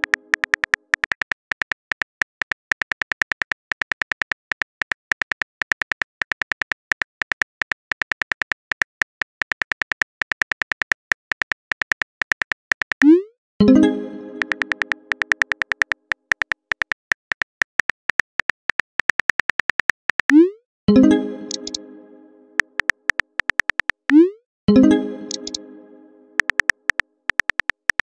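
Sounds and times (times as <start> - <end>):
keyboard typing clicks: 0.0 - 21.9, 22.6 - 25.7, 26.4 - 28.0.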